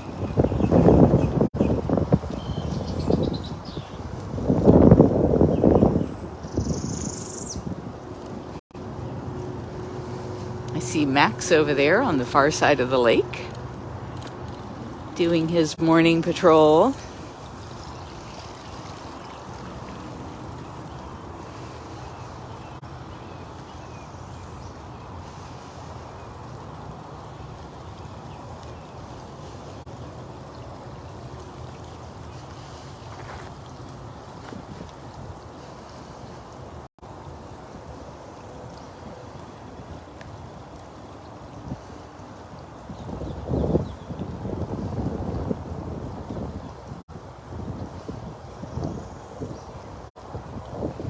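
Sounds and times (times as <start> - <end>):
wind rushing across microphone: 0.0 - 51.0.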